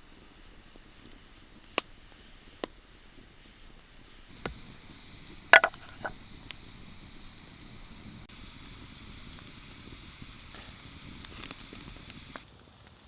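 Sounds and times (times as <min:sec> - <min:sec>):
campfire popping: 0:00.1 - 0:13.0.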